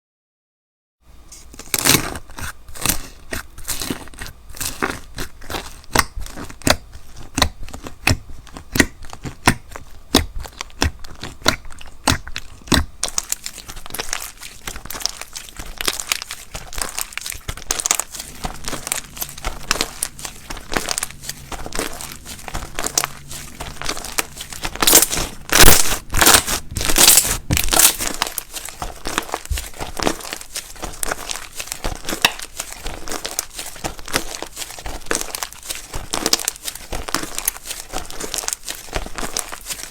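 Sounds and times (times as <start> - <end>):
brittle crunching and crackling: 1.3 - 39.9.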